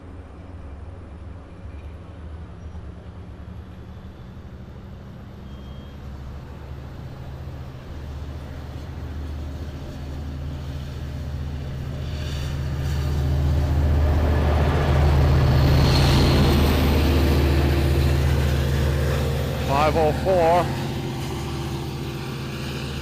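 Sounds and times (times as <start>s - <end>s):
train rolling noise: 0.0s - 5.4s, 6.0s - 23.0s
diesel locomotive engine throb: 0.0s - 23.0s.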